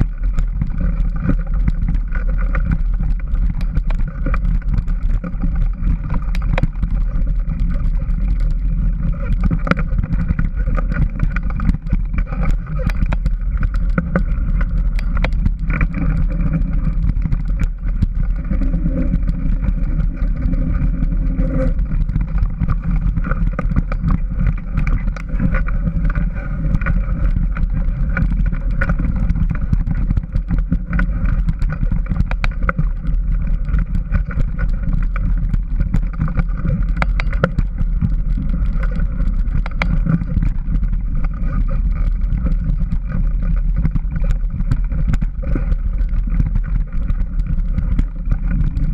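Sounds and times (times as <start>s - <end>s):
off-road vehicle engine running: 0.0s - 48.9s.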